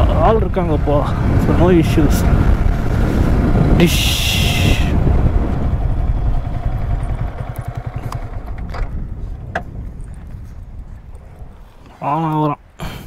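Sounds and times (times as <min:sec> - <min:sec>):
motorcycle engine at low revs: 0:00.0 - 0:11.6.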